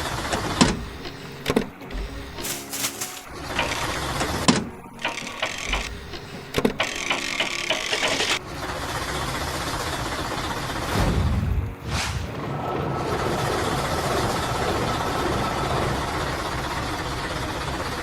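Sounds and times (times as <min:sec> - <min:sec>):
construction machine running: 0:00.0 - 0:11.0, 0:11.6 - 0:18.0.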